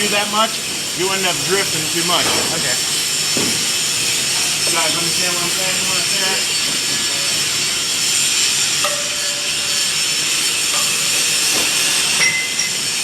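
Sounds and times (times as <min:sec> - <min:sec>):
welding hiss: 0:00.0 - 0:13.0.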